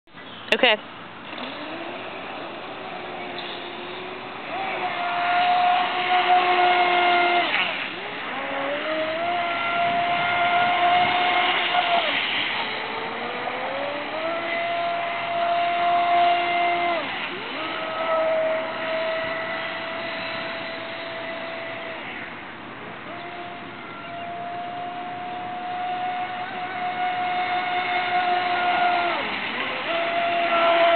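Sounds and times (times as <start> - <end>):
speedboat electric motor whining: 0.5 - 30.9.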